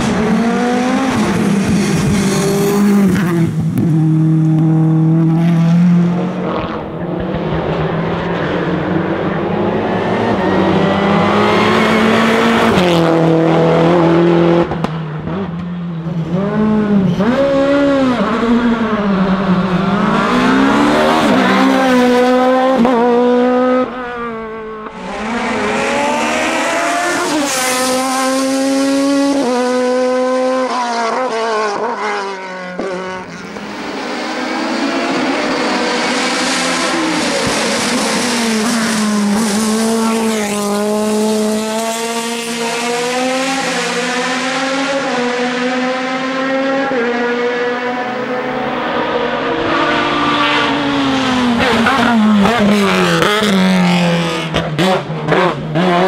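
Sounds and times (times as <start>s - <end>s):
racing engines revving and shifting: 0.0s - 56.0s.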